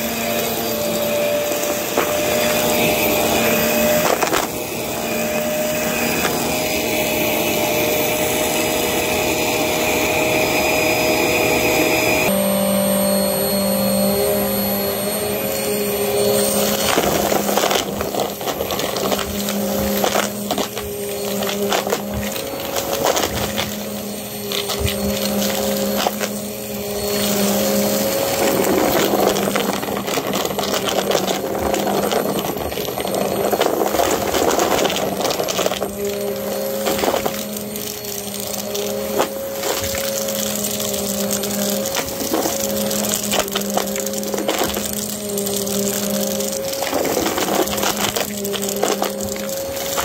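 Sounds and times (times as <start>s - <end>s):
debris rattling through vacuum: 0.0s - 12.1s, 12.9s - 50.0s
vacuum cleaner motor humming: 0.0s - 50.0s.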